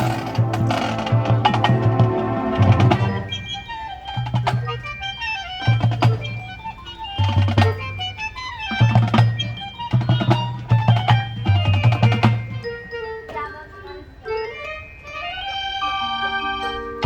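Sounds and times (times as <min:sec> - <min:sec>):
marching band playing: 0:00.0 - 0:13.0, 0:14.6 - 0:17.0
percussion strikes: 0:00.0 - 0:17.0.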